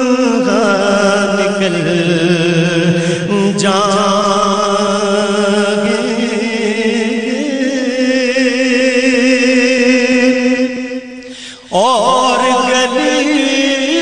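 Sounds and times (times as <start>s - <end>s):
man chanting with vibrato: 0.0s - 14.0s.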